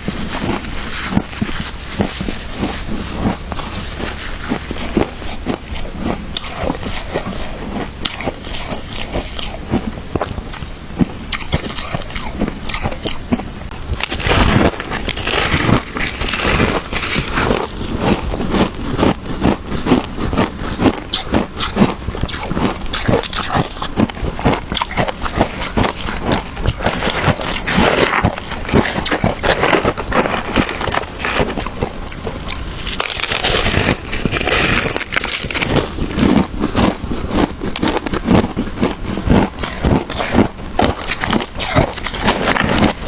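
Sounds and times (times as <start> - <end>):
shaved ice crunching: 0.1 - 10.6, 13.9 - 43.0.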